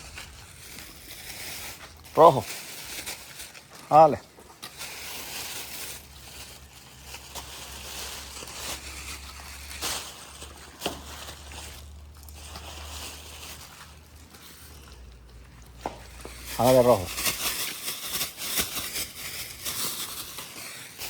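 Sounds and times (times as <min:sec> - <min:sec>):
horses crunching food: 0:00.0 - 0:21.0.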